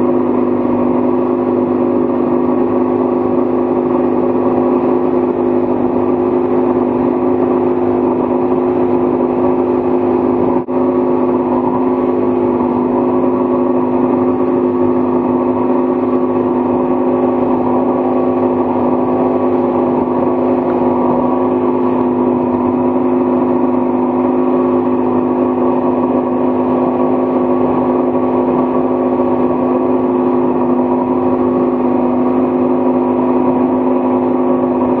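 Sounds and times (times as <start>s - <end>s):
motorboat engine droning: 0.0s - 35.0s
rushing water and spray: 0.1s - 35.0s.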